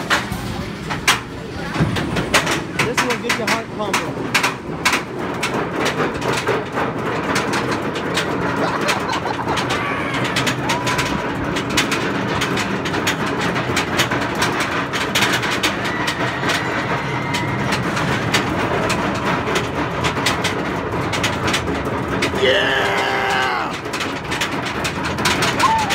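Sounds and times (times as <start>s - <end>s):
roller coaster rumbling on track: 0.0s - 25.9s
wheels clattering on rails: 0.0s - 25.9s.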